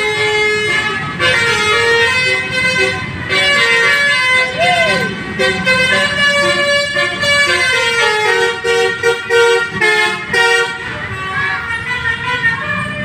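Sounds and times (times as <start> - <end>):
bus engine rumbling: 0.0 - 13.0
musical bus horn melody: 0.0 - 13.0.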